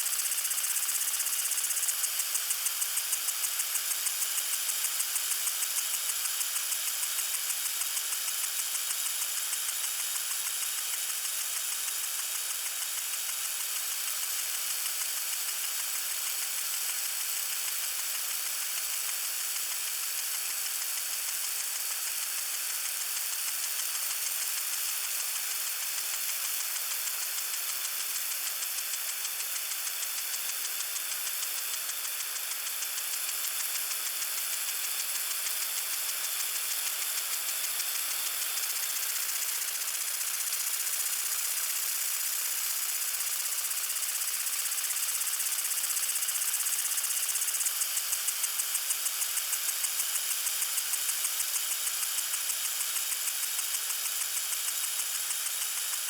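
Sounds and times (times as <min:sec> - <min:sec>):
water sprinkler spraying: 0:00.0 - 0:56.0.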